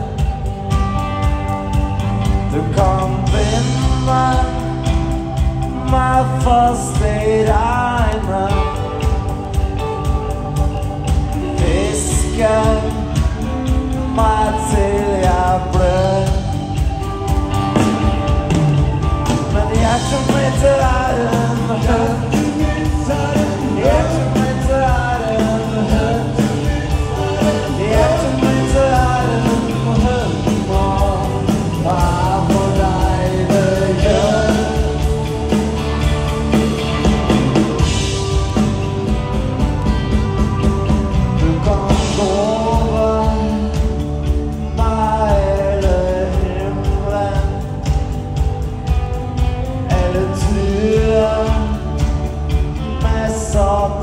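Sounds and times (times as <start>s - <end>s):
person singing lead vocal: 0.0s - 39.2s, 40.0s - 54.0s
drums: 0.0s - 54.0s
electric guitars: 0.0s - 54.0s.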